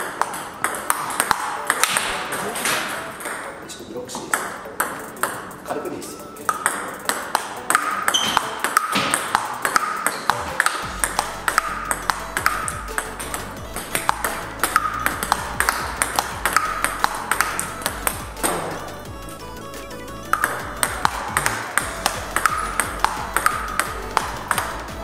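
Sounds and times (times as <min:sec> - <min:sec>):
background music: 0:00.0 - 0:25.0
table tennis ball hitting paddles and table: 0:00.0 - 0:25.0.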